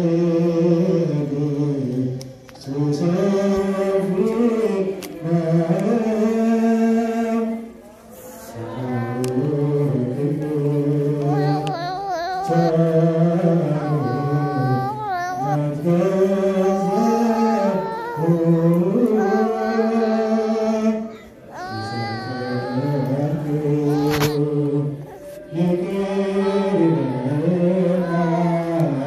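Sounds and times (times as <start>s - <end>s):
person chanting slow melody: 0.0s - 29.0s.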